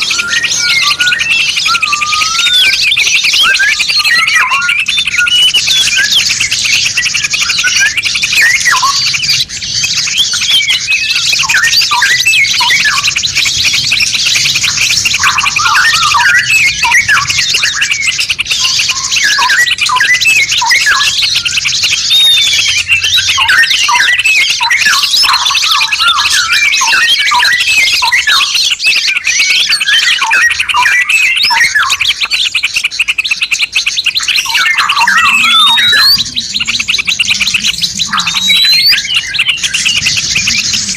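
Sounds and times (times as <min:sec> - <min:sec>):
high buzzing bird trill: 0:00.0 - 0:40.9
songbirds chirping and whistling: 0:00.0 - 0:40.9.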